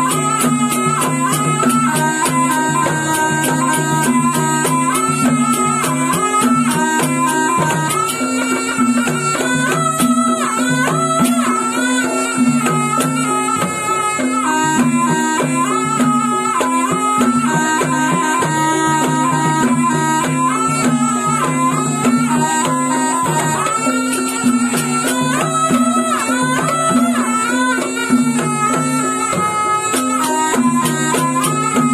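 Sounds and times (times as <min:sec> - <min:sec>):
double-reed shawm melody: 0:00.0 - 0:31.9
drum strokes: 0:00.0 - 0:31.9
gamelan percussion: 0:00.0 - 0:31.9.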